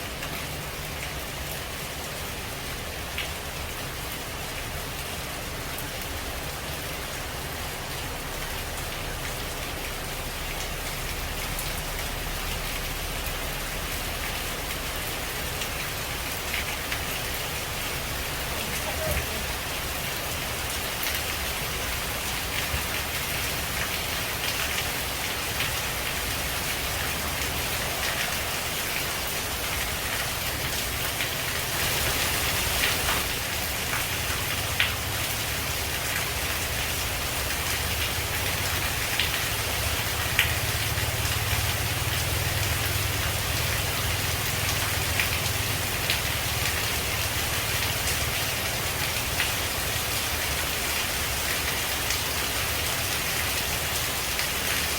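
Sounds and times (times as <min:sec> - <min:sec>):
heavy rain on leaves: 0:00.0 - 0:54.9.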